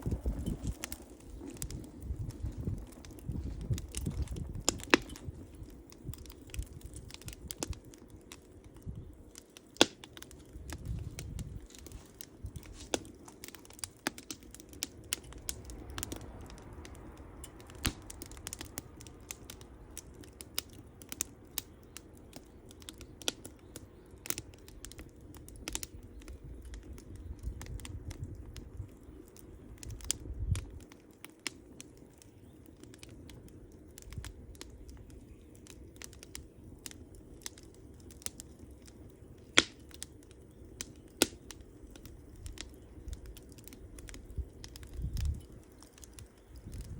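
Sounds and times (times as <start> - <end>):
campfire crackling and popping: 0.0 - 46.9
low rumble of fire: 0.0 - 46.9.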